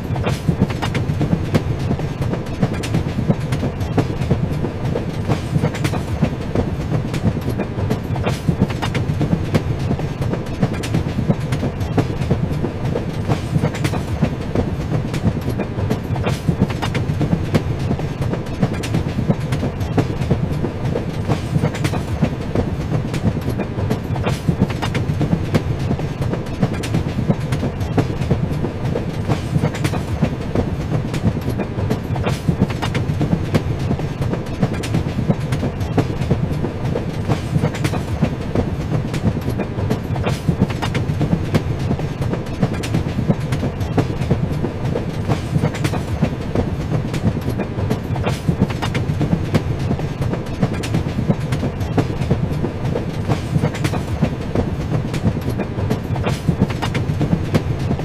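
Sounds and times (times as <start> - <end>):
low train rumble: 0.0 - 58.0
train wheels clickety-clack: 0.0 - 58.0.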